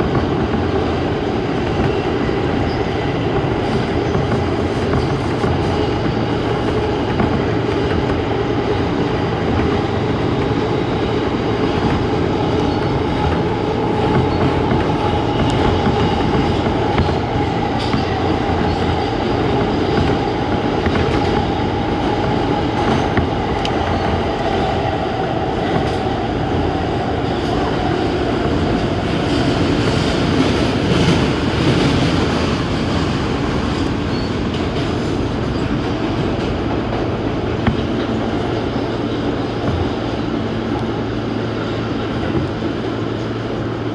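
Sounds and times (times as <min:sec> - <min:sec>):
rail clicks: 0:00.0 - 0:43.9
train wheels rumbling on rails: 0:00.0 - 0:43.9.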